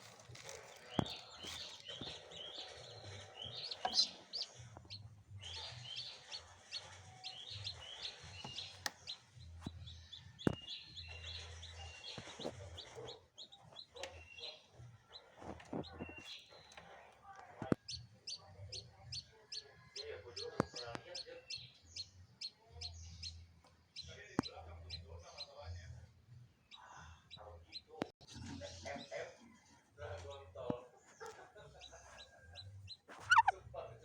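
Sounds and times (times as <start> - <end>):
chicks peeping: 0.0 - 25.6, 31.0 - 33.6.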